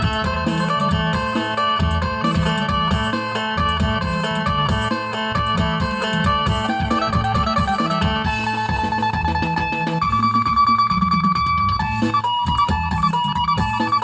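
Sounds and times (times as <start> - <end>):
plucked lute melody: 0.0 - 14.0
steady low beat: 0.0 - 14.0.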